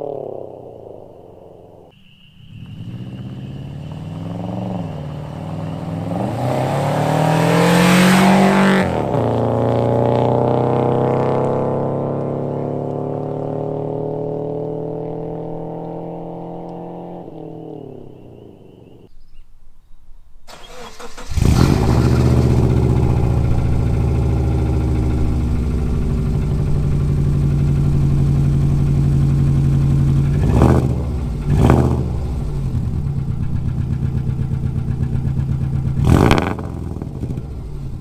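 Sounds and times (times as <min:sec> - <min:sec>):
car engine starting and idling: 0:02.5 - 0:16.0, 0:20.5 - 0:38.0
car engine revving: 0:02.5 - 0:19.1, 0:20.5 - 0:38.0.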